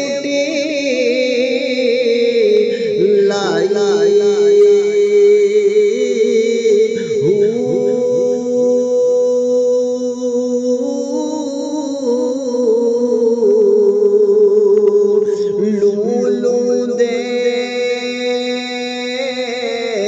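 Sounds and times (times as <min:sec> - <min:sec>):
wordless vocal humming: 0:00.0 - 0:20.0.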